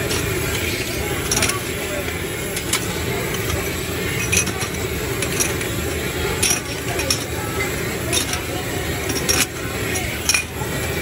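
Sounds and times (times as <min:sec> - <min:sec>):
gas torch burning: 0:00.0 - 0:11.0.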